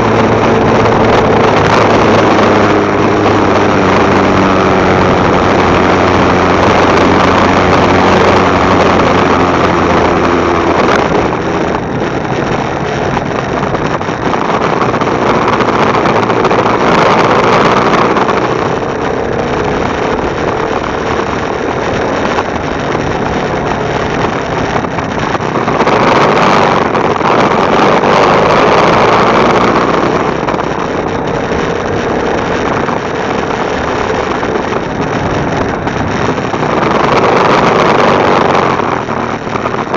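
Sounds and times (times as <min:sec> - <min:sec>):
motorcycle engine hum: 0:00.0 - 0:39.9
road noise: 0:00.0 - 0:39.9
wind rushing over microphone: 0:00.0 - 0:39.9.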